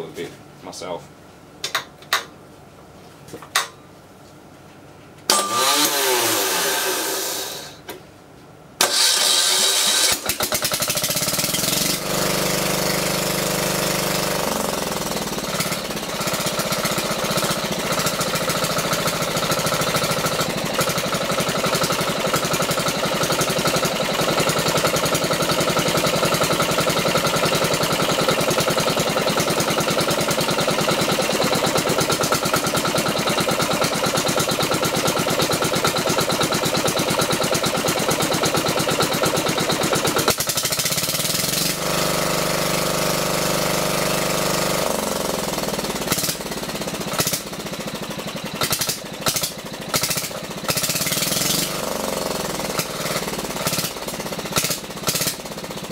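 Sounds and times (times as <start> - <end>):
electric starter cranking: 5.3 - 7.9, 8.8 - 55.9
diesel generator running: 5.3 - 8.0, 8.8 - 55.9.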